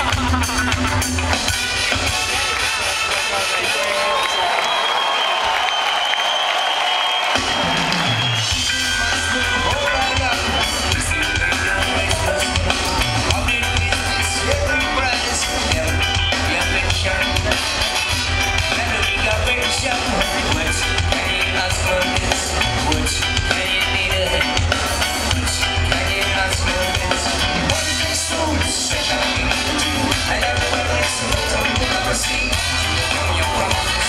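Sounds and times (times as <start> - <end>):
live reggae band over pa: 0.0 - 34.0.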